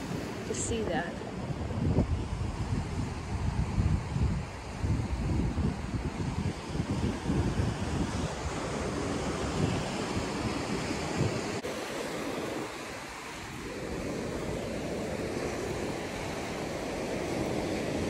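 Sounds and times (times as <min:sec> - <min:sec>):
ocean surf washing on shore: 0:00.0 - 0:18.0
wind buffeting microphone: 0:00.0 - 0:18.0.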